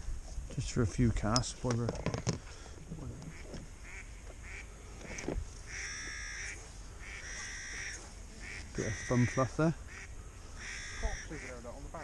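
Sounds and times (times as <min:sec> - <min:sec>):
waterbirds calling: 0:01.9 - 0:12.0.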